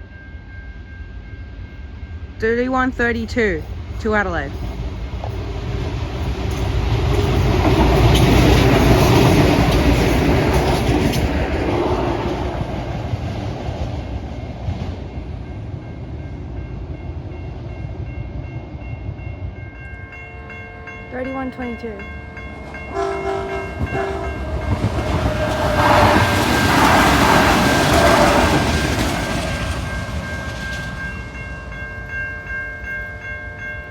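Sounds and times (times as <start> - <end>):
diesel railcar passing: 0.0 - 33.9.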